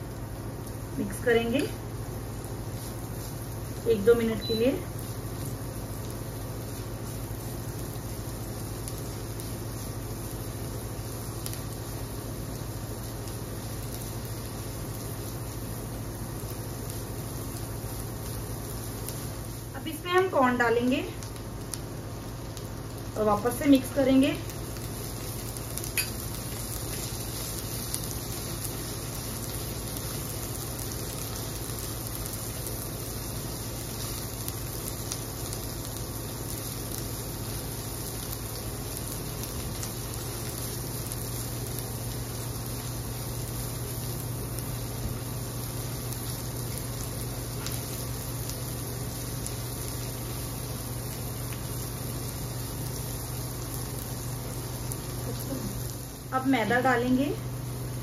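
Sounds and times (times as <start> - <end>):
steady low hum: 0.0 - 58.0
vegetables sizzling in a pan: 0.0 - 58.0.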